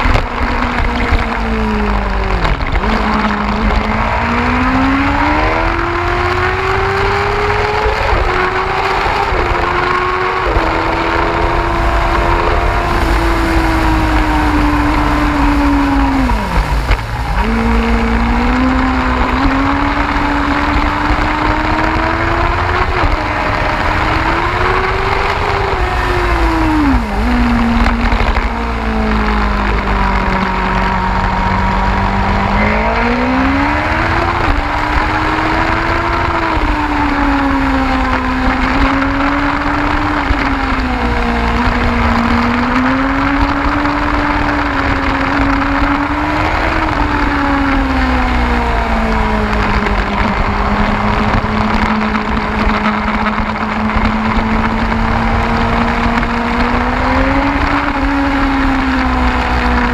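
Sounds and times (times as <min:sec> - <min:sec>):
motorcycle engine revving: 0:00.0 - 0:59.9
wind rumble on microphone: 0:00.0 - 0:59.9.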